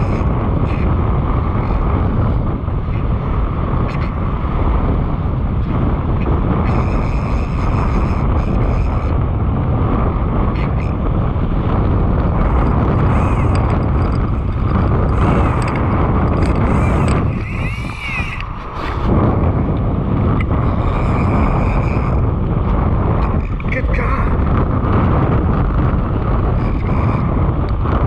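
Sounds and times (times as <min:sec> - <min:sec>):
strong wind buffeting microphone: 0:00.0 - 0:28.0.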